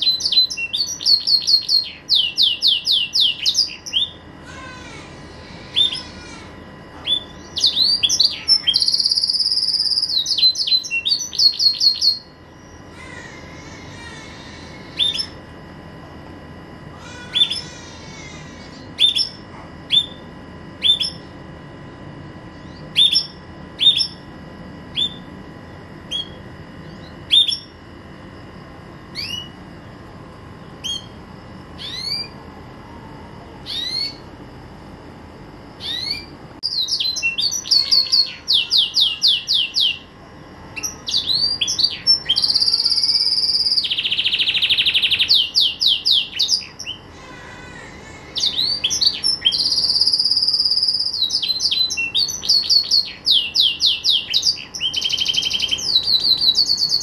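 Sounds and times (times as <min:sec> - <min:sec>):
canary singing: 0:00.0 - 0:15.5, 0:16.9 - 0:21.5, 0:22.4 - 0:25.4, 0:26.0 - 0:27.8, 0:29.1 - 0:29.6, 0:30.6 - 0:32.4, 0:33.6 - 0:34.3, 0:35.8 - 0:57.0.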